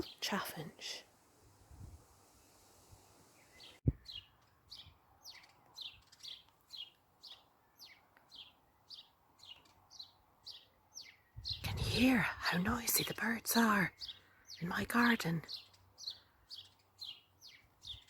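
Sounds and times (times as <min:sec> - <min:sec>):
sparrows chirping: 0:00.0 - 0:01.0, 0:03.2 - 0:18.0.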